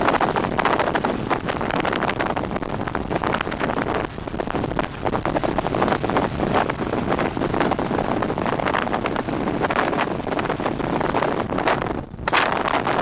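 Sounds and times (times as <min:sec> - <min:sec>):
helicopter cabin drone: 0:00.0 - 0:13.0.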